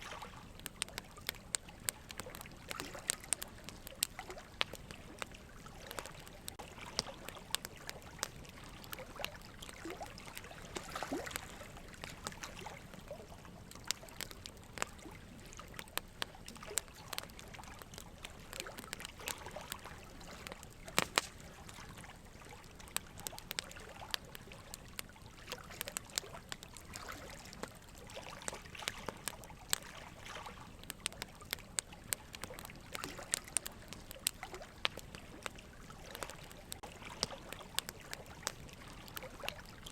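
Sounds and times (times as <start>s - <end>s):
small crackles and clicks: 0.0s - 39.9s
soft steady hiss: 0.0s - 39.9s.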